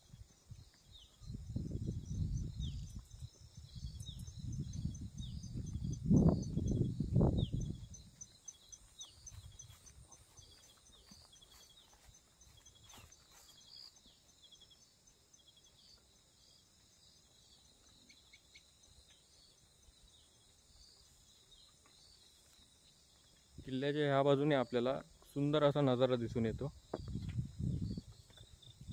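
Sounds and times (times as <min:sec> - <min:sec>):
insect chirping: 0:00.0 - 0:28.9.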